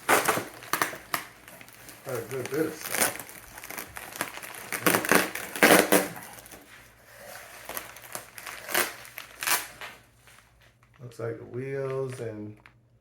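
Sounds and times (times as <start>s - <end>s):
packaging rustling and crinkling: 0.0s - 12.6s.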